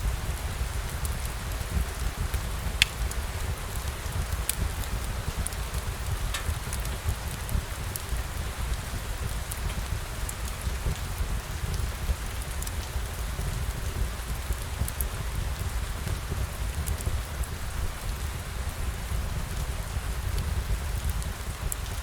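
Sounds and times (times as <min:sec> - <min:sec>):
rain hiss: 0:00.0 - 0:22.0
raindrop ticks: 0:00.3 - 0:18.4.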